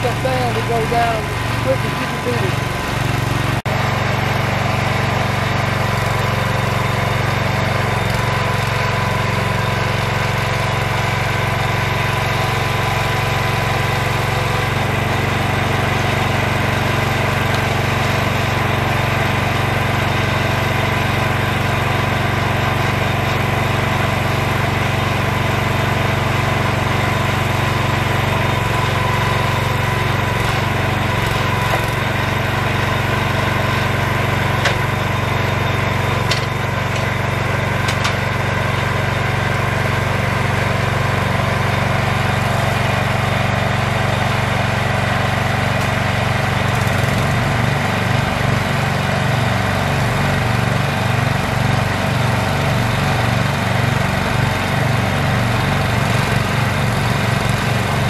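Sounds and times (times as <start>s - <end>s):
drilling rig engine droning: 0.0s - 58.0s.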